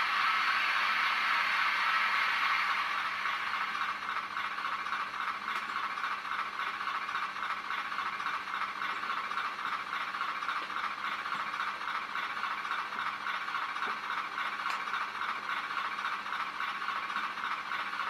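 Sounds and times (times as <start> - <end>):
tinny model diesel engine chugging: 0.0 - 18.0.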